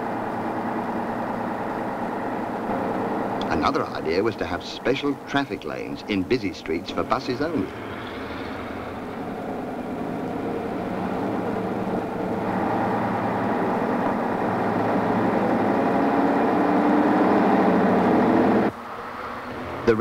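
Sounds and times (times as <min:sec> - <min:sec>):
bus diesel engine: 0:00.0 - 0:20.0.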